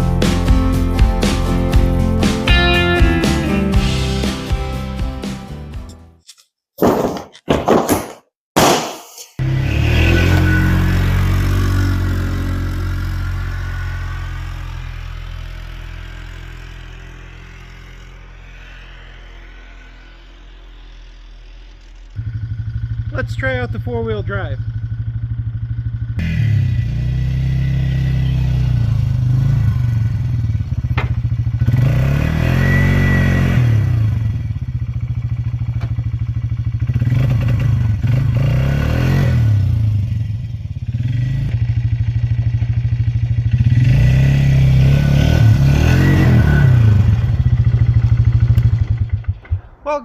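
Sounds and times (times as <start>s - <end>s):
atv engine accelerating: 9.4s - 49.8s.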